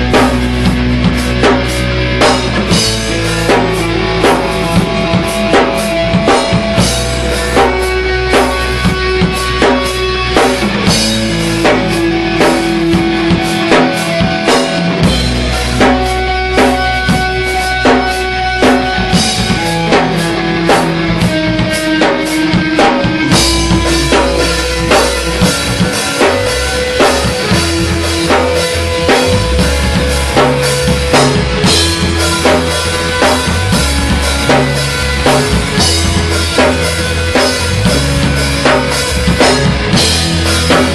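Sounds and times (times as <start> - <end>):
bass guitar low notes: 0.0 - 40.9
distorted electric guitar: 0.0 - 40.9
drum kit: 0.0 - 40.9.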